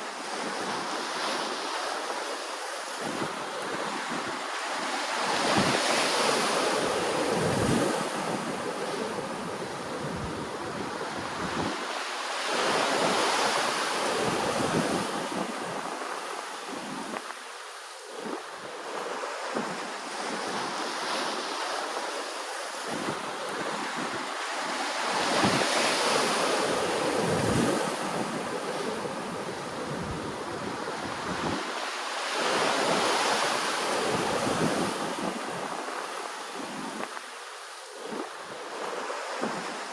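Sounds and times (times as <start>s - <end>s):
ocean waves rolling in: 0.0s - 39.9s
wind rumbling on microphone: 0.2s - 39.9s.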